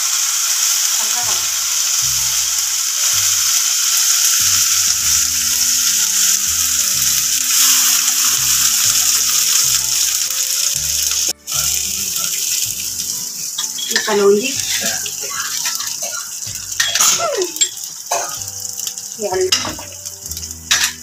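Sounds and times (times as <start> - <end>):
paste sizzling in hot oil: 0.0 - 21.0.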